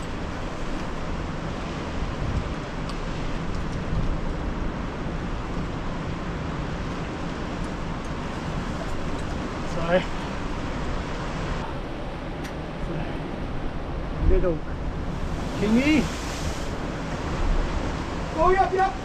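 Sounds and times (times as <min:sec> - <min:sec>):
ocean surf against rocks: 0:00.0 - 0:19.0
wind buffeting microphone: 0:00.0 - 0:19.0.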